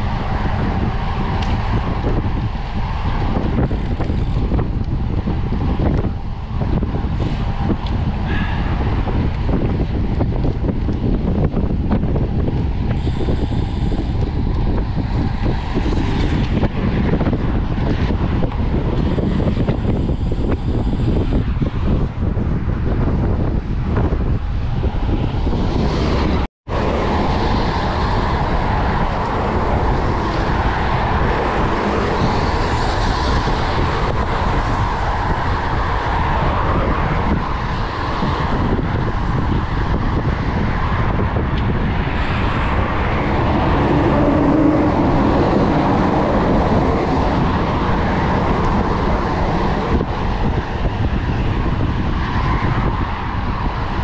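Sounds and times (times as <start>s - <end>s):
bicycle road noise: 0.0s - 54.0s
wind rushing on microphone: 0.0s - 54.0s.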